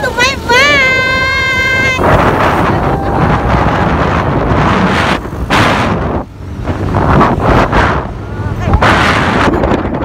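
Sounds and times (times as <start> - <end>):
heavy wind buffeting microphone: 0.0 - 10.0.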